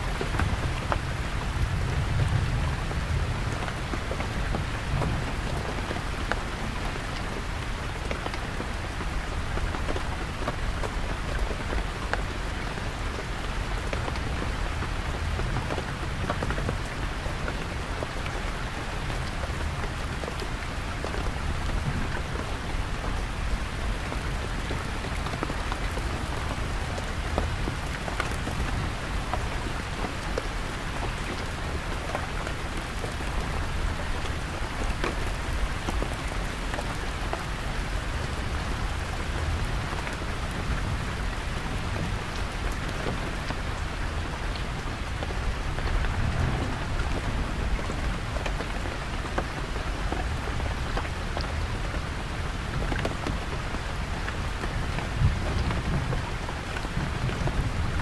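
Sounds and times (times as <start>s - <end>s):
heavy rain on a canvas tent: 0.0s - 58.0s.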